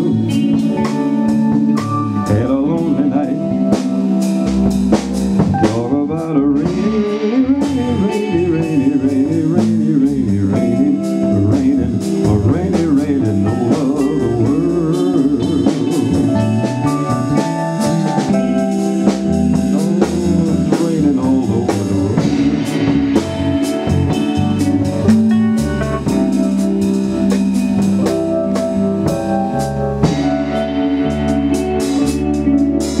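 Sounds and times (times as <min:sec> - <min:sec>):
drum kit: 0:00.0 - 0:33.0
electric guitar: 0:00.0 - 0:33.0.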